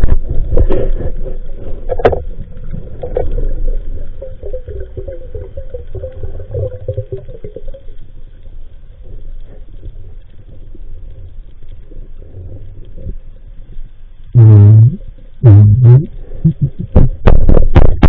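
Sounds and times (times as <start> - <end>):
low underwater rumble: 0.0 - 18.0.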